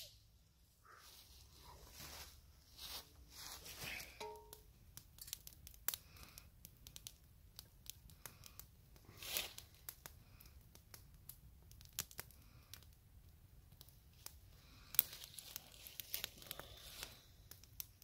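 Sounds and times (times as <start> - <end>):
campfire crackling: 0.0 - 18.0
soft rush of fire: 0.0 - 18.0.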